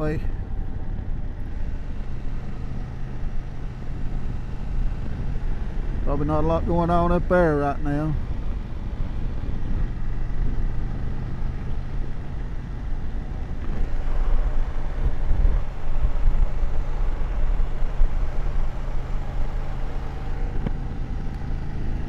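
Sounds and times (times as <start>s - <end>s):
motorcycle engine running: 0.0s - 6.1s, 8.2s - 22.0s
wind and road noise: 0.0s - 22.0s.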